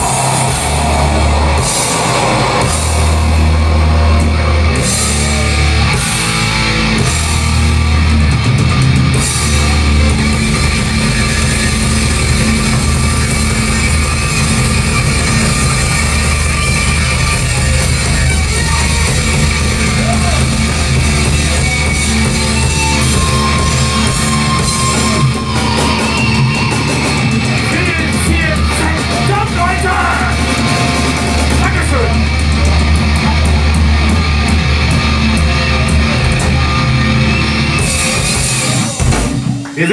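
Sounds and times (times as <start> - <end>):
bass guitar low notes: 0.0 - 39.9
distorted electric guitars: 0.0 - 39.9
drum kit with cymbals: 0.0 - 39.9
live metal band playing: 0.0 - 39.9.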